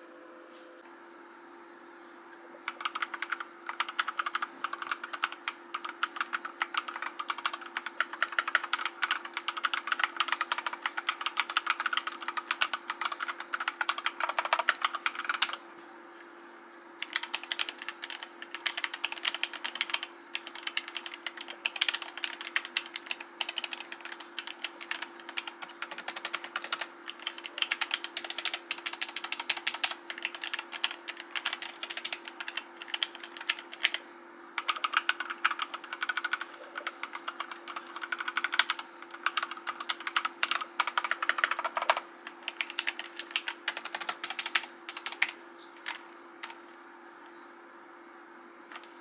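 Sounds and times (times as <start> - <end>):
faint steady hum: 0.0 - 49.0
mechanical keyboard typing: 2.7 - 15.6, 17.0 - 34.0, 34.6 - 46.6.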